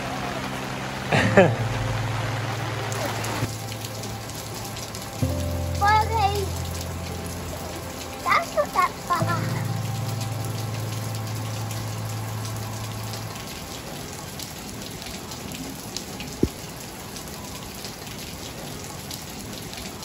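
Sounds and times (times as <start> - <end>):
rain falling on tiles: 0.0 - 20.0.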